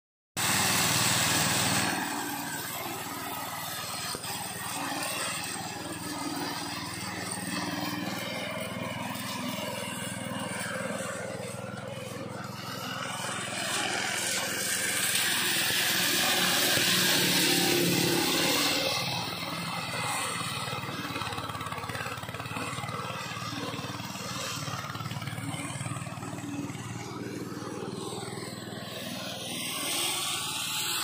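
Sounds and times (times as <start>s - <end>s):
lawn mower engine running: 0.4s - 31.0s.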